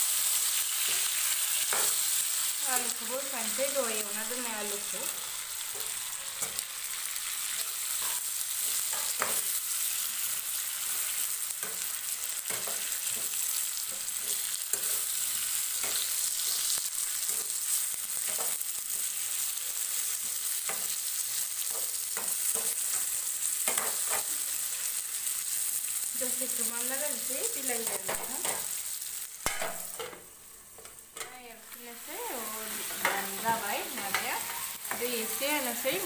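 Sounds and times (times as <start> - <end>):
chicken and potatoes sizzling: 0.0 - 36.0.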